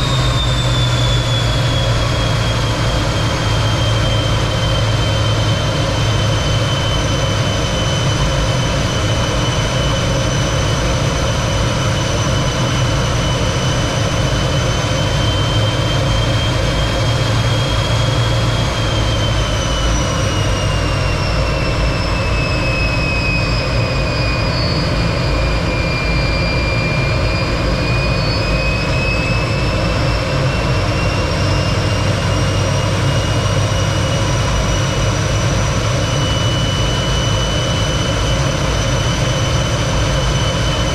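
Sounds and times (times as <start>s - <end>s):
jet engine roar and whine: 0.0s - 40.9s.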